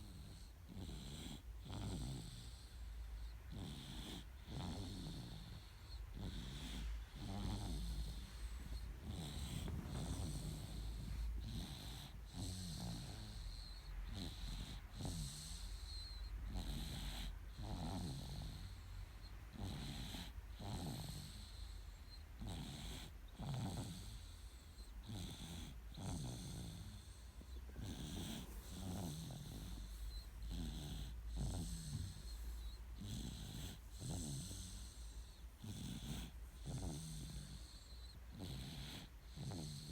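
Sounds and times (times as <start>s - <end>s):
baby snoring: 0.0s - 39.9s.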